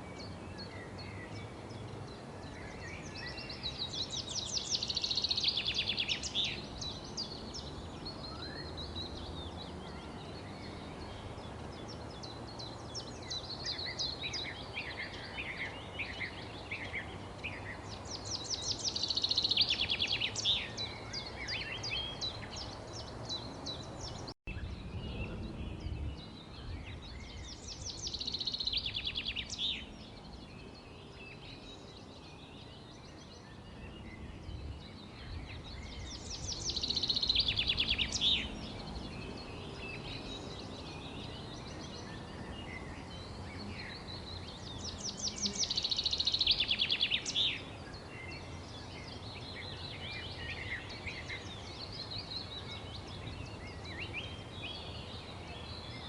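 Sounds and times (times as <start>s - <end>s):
bird singing loud trilled song: 0.0s - 56.0s
songbirds chirping: 0.0s - 56.0s.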